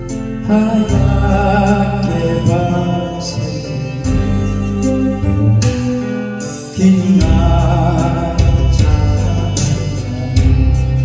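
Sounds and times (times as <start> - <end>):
backing track with bass and beat: 0.0 - 11.0
person singing slow song: 0.0 - 11.0.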